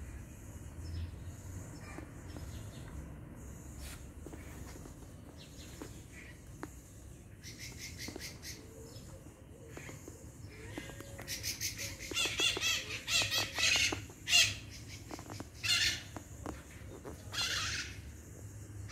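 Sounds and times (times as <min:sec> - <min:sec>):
birds chattering harshly: 0:00.0 - 0:18.9.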